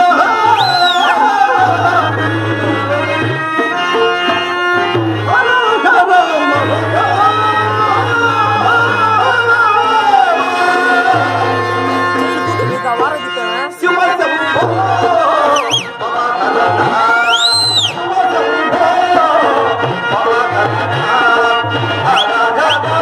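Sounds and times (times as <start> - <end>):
man singing: 0.0 - 4.0, 4.8 - 23.0
tabla: 0.0 - 17.2, 17.9 - 23.0
harmonium: 0.0 - 23.0.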